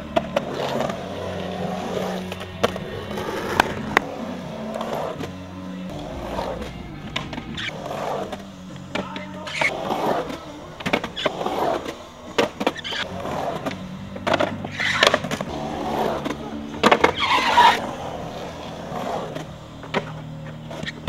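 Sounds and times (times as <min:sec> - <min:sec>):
skateboard scraping: 0:00.0 - 0:21.0
skateboard wheels rolling on concrete: 0:00.0 - 0:21.0.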